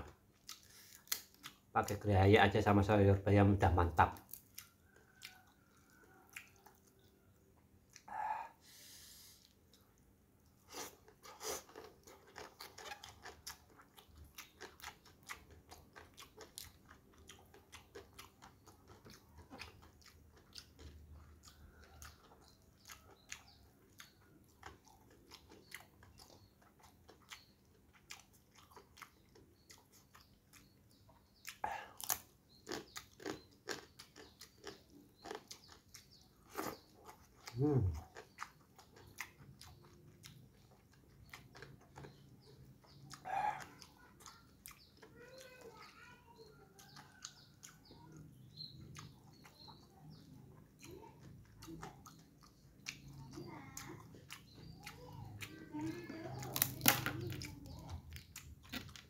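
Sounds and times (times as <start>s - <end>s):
chewing and crunching: 0.0s - 2.6s, 4.0s - 8.2s, 9.4s - 59.0s.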